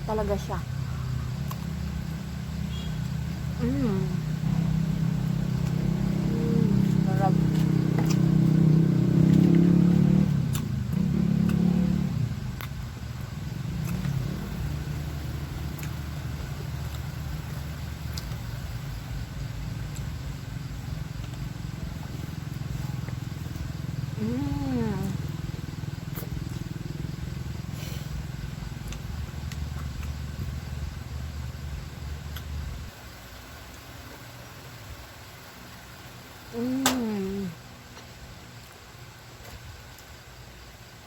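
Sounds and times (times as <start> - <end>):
low motor rumble: 0.0 - 38.8.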